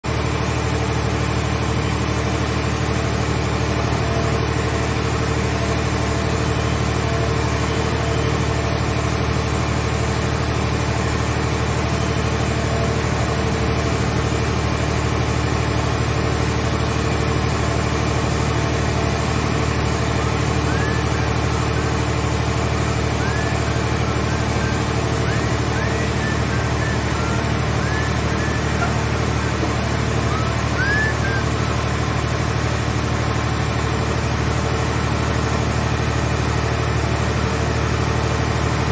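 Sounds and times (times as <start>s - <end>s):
hydraulic baler machinery droning: 0.0s - 38.9s.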